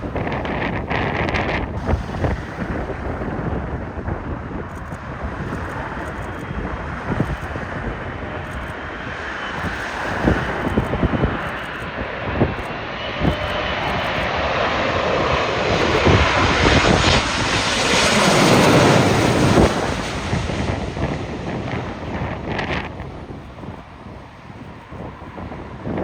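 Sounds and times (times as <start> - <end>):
jet airliner engine roar: 0.0 - 26.0
wind buffeting microphone: 0.0 - 26.0.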